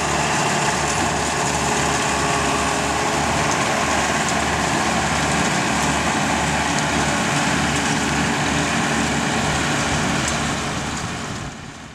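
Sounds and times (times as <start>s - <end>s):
round baler working: 0.0s - 11.9s
tractor diesel engine running: 0.0s - 11.9s.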